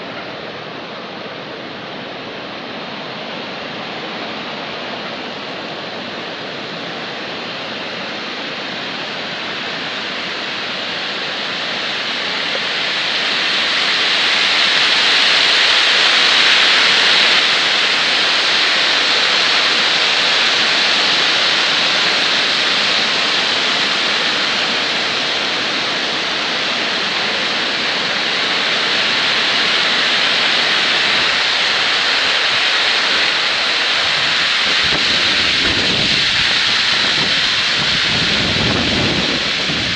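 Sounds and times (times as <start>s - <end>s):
water rushing through a dam: 0.0s - 39.9s.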